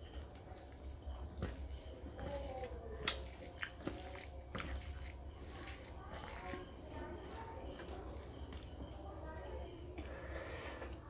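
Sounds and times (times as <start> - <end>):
chewing: 0.0 - 10.4
wet food squelching: 0.0 - 11.0.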